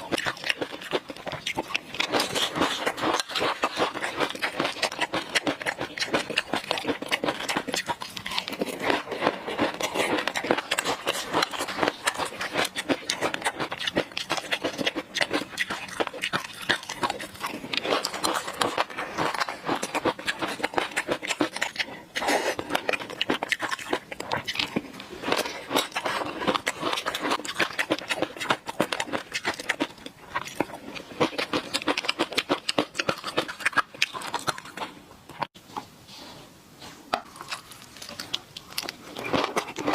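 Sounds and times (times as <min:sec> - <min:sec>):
wet chewing sounds: 0:00.0 - 0:35.6, 0:37.0 - 0:39.9.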